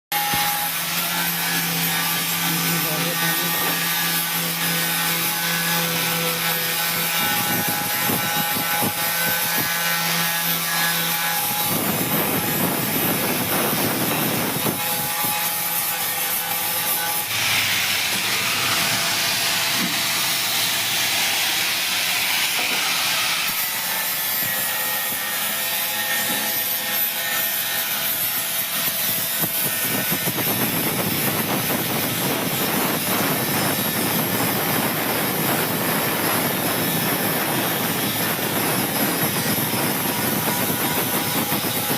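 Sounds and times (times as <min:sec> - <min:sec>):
arc welding hissing and crackling: 0:00.1 - 0:41.9.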